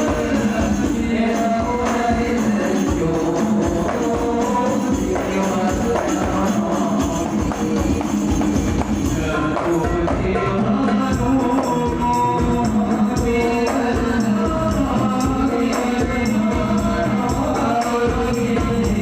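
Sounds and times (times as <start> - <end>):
frame drums beating: 0.0 - 19.0.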